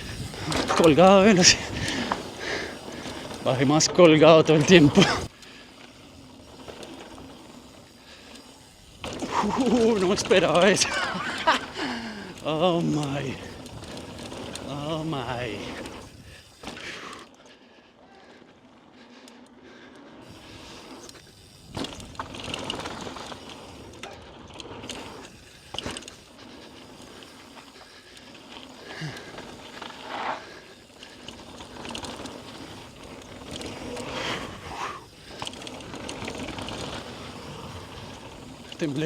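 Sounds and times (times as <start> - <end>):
tyre noise on dirt: 0.0 - 17.2, 20.0 - 39.0
bicycle freewheel ticking: 0.0 - 39.0.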